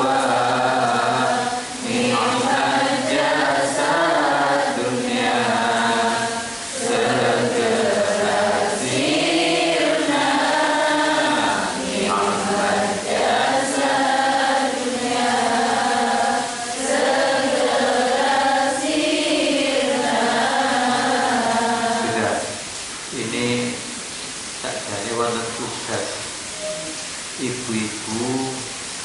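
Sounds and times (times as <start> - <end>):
unaccompanied devotional chanting: 0.0 - 28.8.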